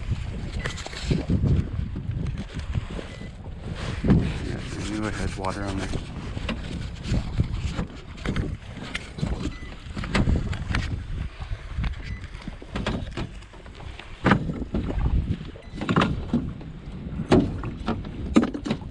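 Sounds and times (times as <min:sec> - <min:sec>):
wind rumble on microphone: 0:00.0 - 0:18.9.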